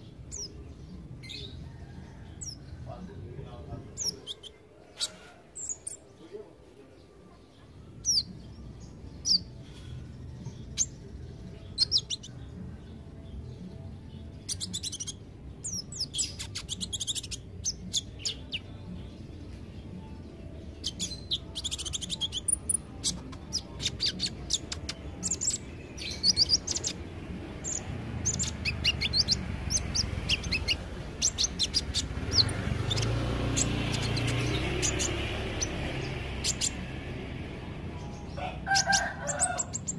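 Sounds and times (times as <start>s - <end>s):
sunbird chirping and twittering: 0.0s - 39.9s.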